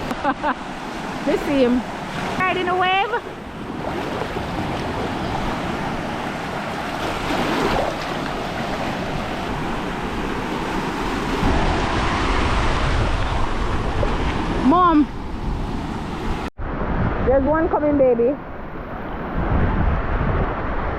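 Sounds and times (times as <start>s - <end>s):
sea surf breaking on beach: 0.0s - 17.3s.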